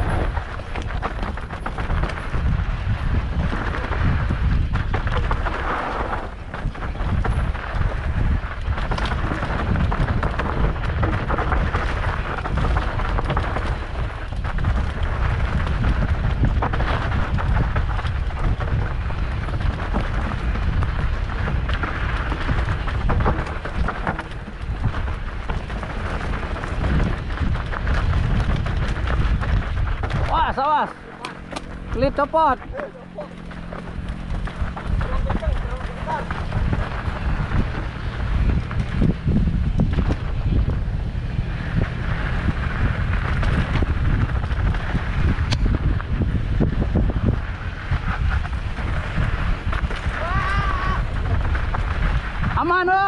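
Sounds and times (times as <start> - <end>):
bike clattering over bumps: 0.0 - 53.0
bike tyre noise: 0.0 - 53.0
wind rumble on microphone: 0.0 - 53.0.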